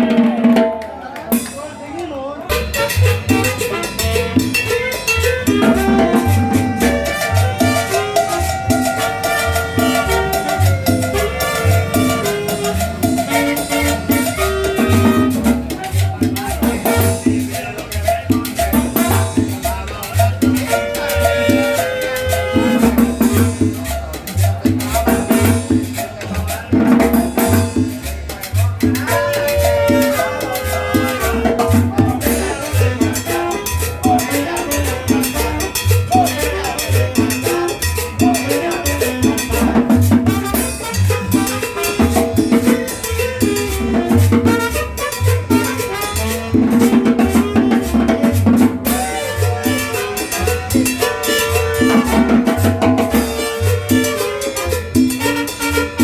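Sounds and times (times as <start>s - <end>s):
salsa dance music: 0.0s - 56.0s.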